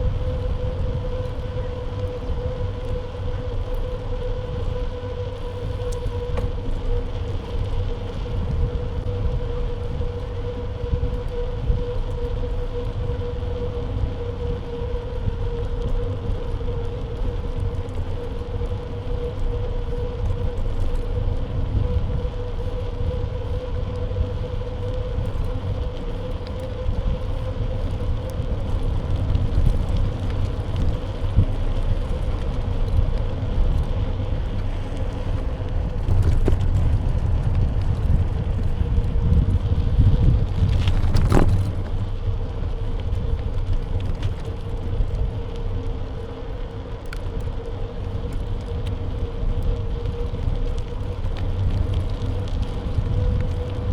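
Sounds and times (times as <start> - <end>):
bike road rumble: 0.0 - 53.9
faint steady whine: 0.0 - 53.9
wind noise: 0.0 - 53.9.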